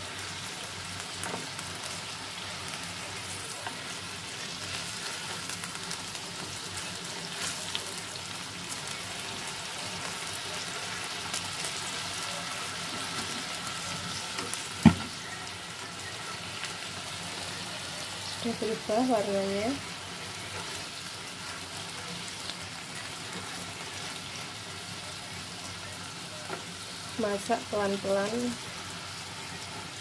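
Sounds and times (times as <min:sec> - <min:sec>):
chicken sizzling in pan: 0:00.0 - 0:30.0.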